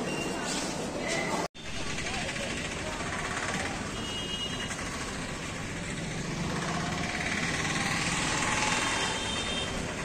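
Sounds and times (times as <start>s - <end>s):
steady traffic noise: 0.0s - 10.0s.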